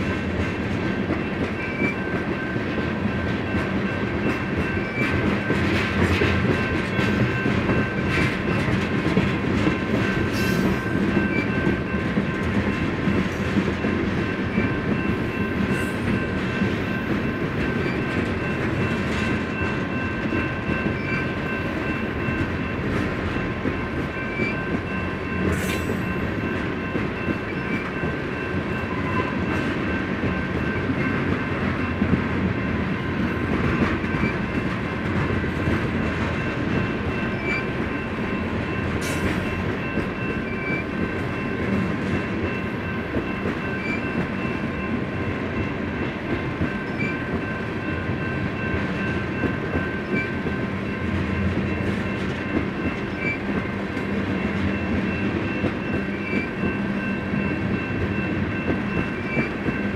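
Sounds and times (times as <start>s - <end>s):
steel wheels rumbling on rail: 0.0s - 59.9s
wheels clickety-clack: 0.0s - 59.9s.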